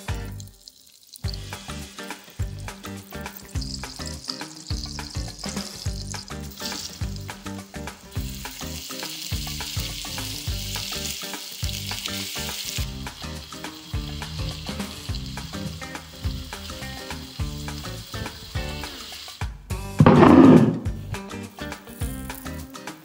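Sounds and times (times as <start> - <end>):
butter and oil sizzling in a pan: 0.0 - 20.1, 20.9 - 23.0
onions frying: 0.0 - 20.2, 20.9 - 23.0.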